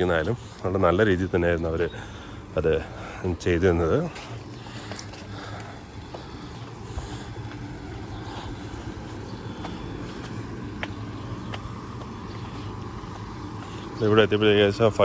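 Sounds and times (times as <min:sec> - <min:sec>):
generator engine hum: 0:00.0 - 0:15.0.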